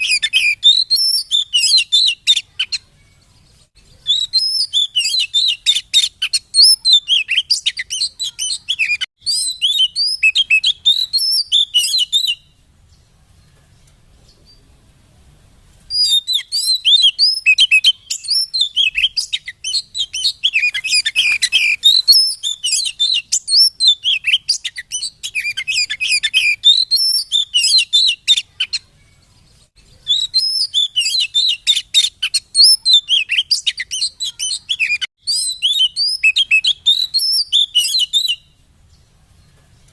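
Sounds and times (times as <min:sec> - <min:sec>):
bird song chirps and whistles: 0:00.0 - 0:13.1, 0:15.9 - 0:39.2.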